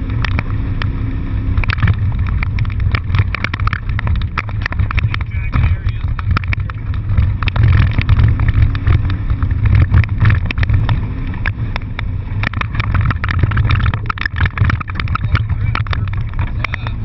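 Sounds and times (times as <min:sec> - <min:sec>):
car engine and road rumble: 0:00.0 - 0:17.0
sharp clicks and rattles: 0:00.0 - 0:17.0.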